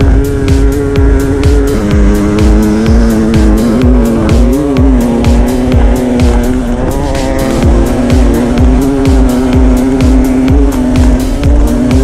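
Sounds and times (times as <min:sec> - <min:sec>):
kick-drum beat: 0:00.0 - 0:12.0
synth drone: 0:00.0 - 0:12.0
ticking hi-hats: 0:00.0 - 0:12.0.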